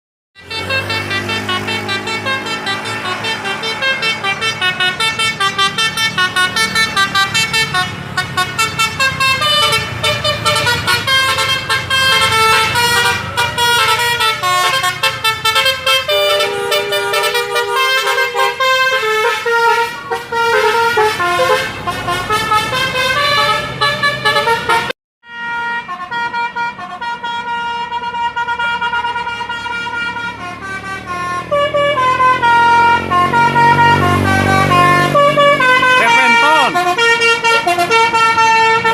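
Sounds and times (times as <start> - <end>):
multi-tone bus horn melody: 0.4 - 38.9.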